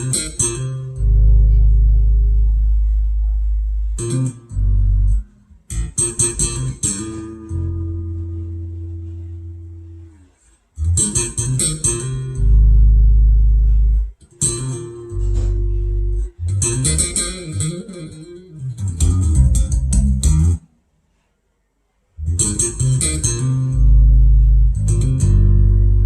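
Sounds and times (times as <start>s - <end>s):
guitar-led music with deep bass: 0.0s - 20.7s, 22.2s - 26.0s.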